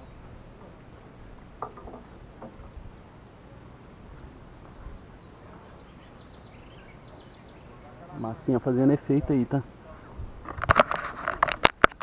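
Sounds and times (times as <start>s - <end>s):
birds chirping: 0.0s - 10.6s
faint outdoor background: 0.0s - 12.0s.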